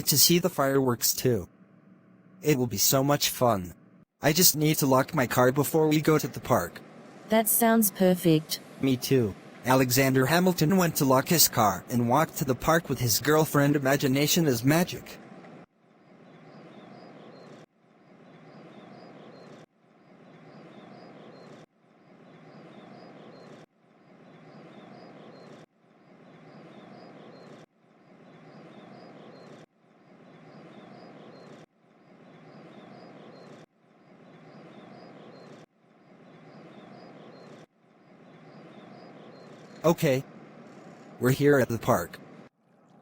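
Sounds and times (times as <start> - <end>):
outdoor ambience: 0.0 - 43.0.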